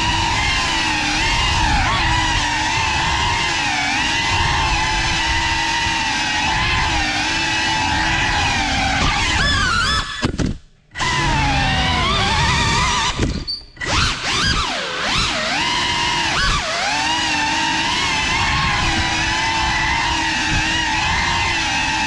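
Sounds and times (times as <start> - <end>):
drone motors and propellers whining: 0.0 - 22.0.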